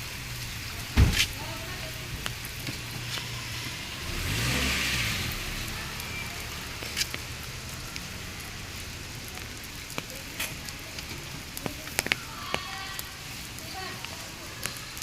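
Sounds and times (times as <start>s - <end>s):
car passing: 0.0s - 13.6s
light drizzle: 0.0s - 15.0s.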